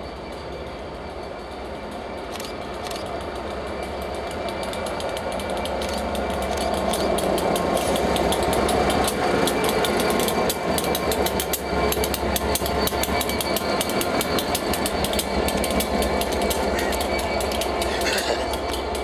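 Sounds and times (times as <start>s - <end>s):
diesel locomotive engine running: 0.0s - 19.0s
wheels clicking on track: 1.1s - 19.0s.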